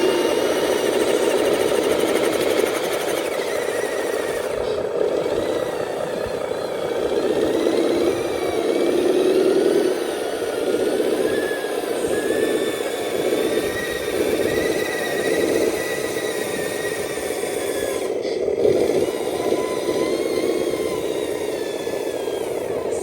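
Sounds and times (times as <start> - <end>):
toy truck electric motor whining: 0.0 - 23.0.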